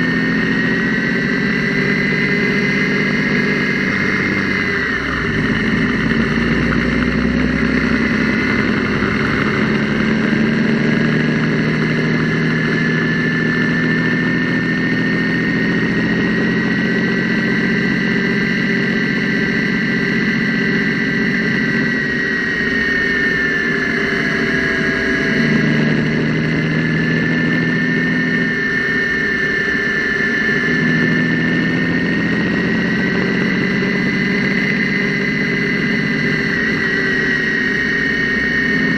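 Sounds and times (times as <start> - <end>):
gasoline engine running: 0.0 - 38.9
high steady tone: 0.0 - 38.9.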